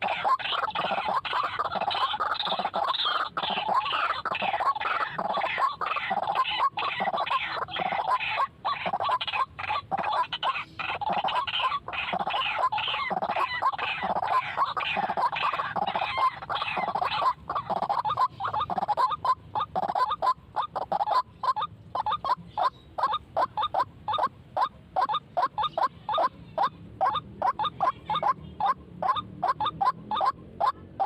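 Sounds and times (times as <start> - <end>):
waterhens croaking calls: 0.0 - 31.0.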